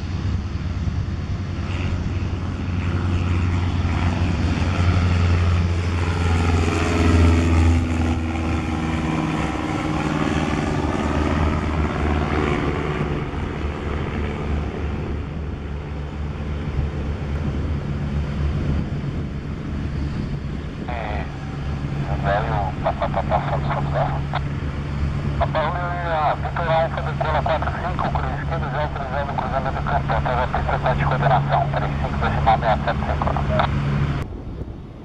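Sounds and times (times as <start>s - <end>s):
small plane engine flying past: 0.0s - 35.0s.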